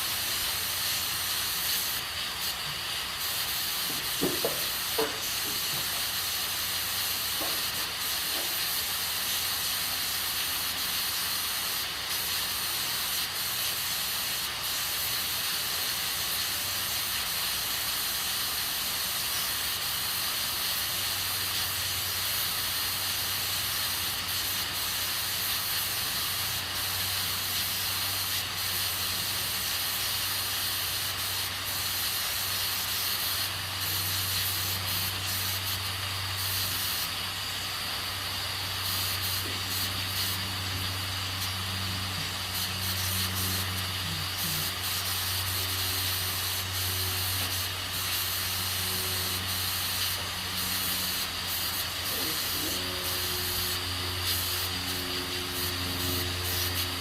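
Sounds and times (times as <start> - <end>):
pressure cooker steam hissing: 0.0 - 57.0.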